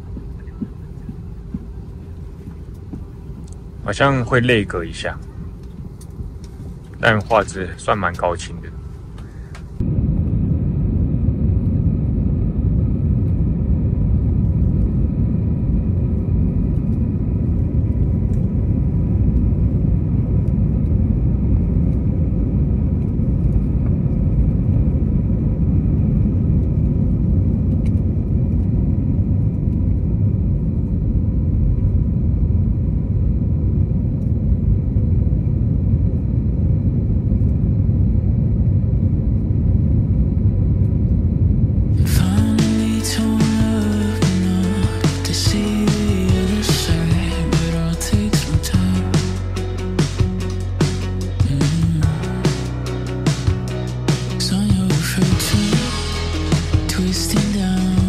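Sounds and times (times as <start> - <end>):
jet engines and airflow in cabin: 0.0 - 58.0.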